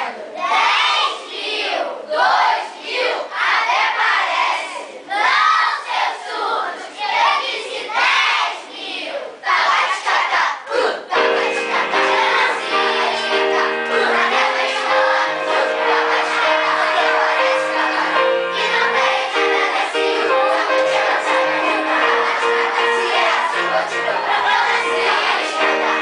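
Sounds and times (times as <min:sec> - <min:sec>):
children's choir singing: 0:00.0 - 0:26.0
children's voices jumble: 0:00.0 - 0:26.0.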